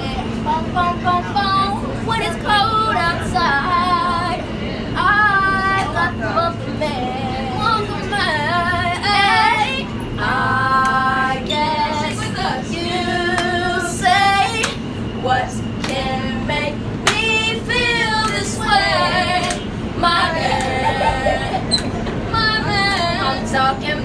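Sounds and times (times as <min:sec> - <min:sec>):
subway car hum: 0:00.0 - 0:24.0
women singing a cappella: 0:00.0 - 0:24.0.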